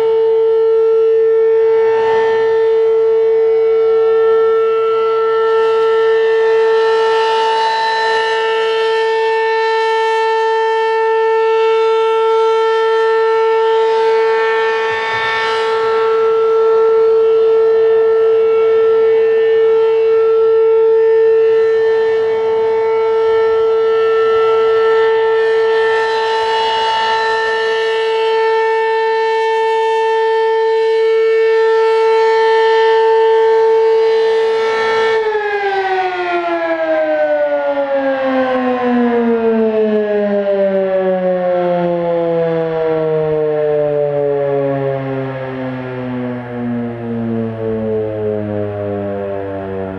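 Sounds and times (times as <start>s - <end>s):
rotating warning siren steady tone: 0.0s - 49.9s.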